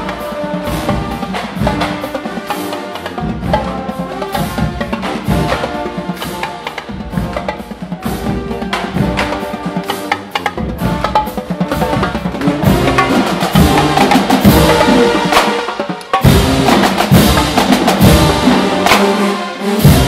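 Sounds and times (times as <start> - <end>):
loud drum-driven music: 0.0 - 20.0.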